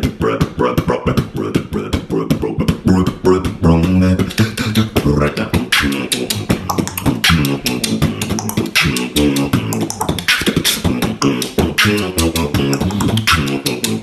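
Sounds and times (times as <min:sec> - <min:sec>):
beatbox vocal percussion: 0:00.0 - 0:14.0.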